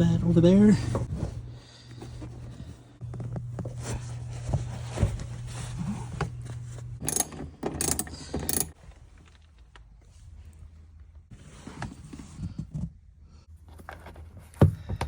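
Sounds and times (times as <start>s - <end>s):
low steady hum: 0.0s - 14.5s.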